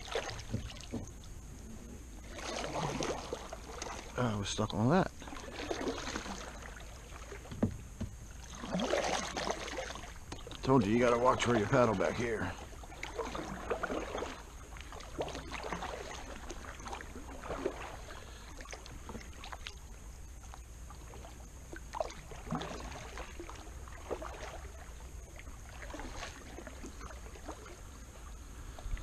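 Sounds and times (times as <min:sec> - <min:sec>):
water splashes and drips: 0:00.0 - 0:01.3, 0:02.2 - 0:19.9, 0:20.5 - 0:27.9
paddle swishing through water: 0:00.0 - 0:29.0.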